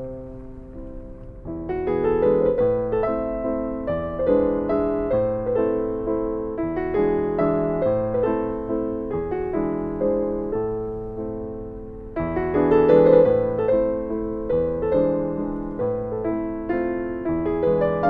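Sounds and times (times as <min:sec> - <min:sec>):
piano playing chords: 0:00.0 - 0:18.0.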